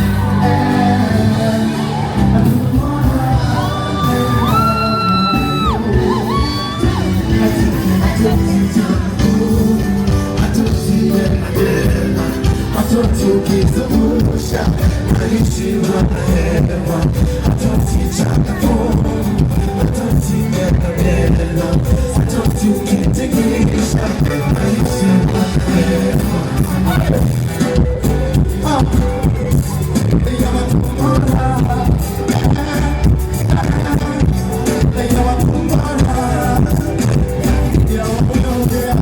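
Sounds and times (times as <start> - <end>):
live music with heavy bass beat: 0.0 - 39.0
person singing: 0.0 - 39.0.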